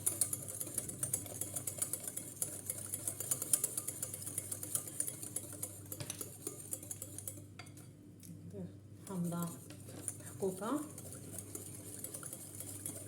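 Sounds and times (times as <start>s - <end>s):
whisk clicking against bowl: 0.0s - 7.8s, 9.4s - 13.0s.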